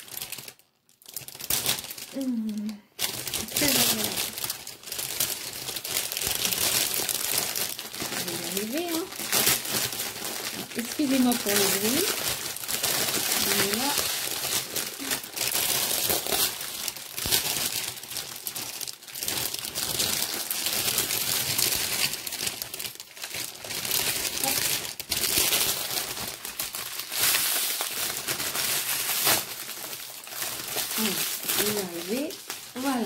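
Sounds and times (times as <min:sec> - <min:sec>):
plastic wrapping crinkling: 0:00.0 - 0:33.0.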